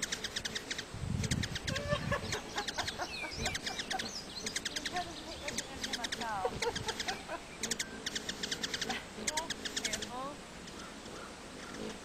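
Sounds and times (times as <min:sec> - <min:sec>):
buzzing wing hum: 0:00.0 - 0:12.0
hummingbirds chattering: 0:00.0 - 0:12.0.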